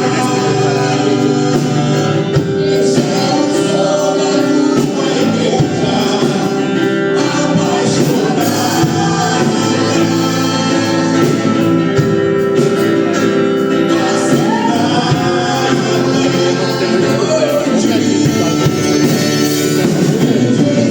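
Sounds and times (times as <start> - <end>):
full band playing: 0.0 - 20.9
group singing gospel song: 0.0 - 20.9.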